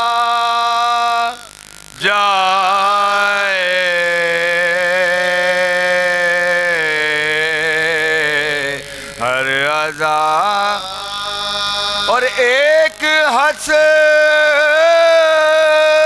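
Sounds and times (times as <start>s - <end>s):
men chanting a lament: 2.0s - 16.0s.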